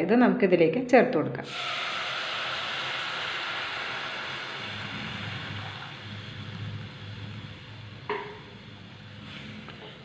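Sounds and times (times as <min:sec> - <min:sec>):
milk pouring into hot pan: 0:01.5 - 0:09.6.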